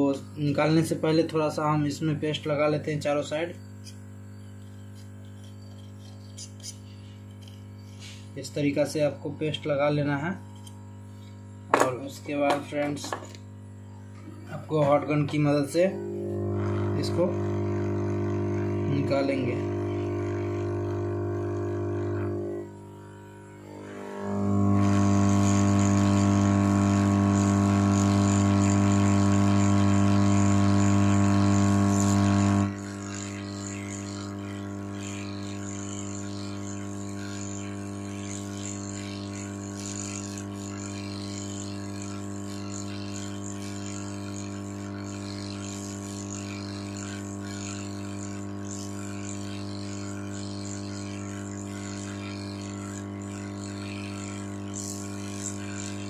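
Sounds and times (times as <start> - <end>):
hot air gun humming: 0.0 - 56.0.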